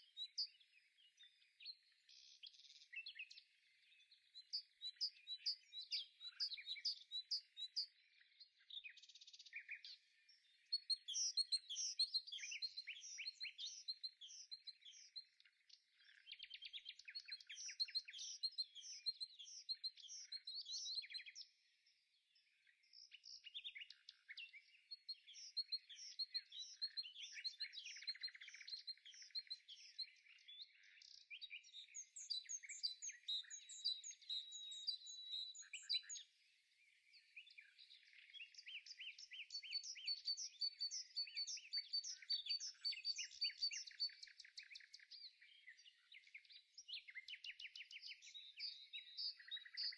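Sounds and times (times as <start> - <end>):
small songbirds chirping and trilling: 0.0 - 49.9.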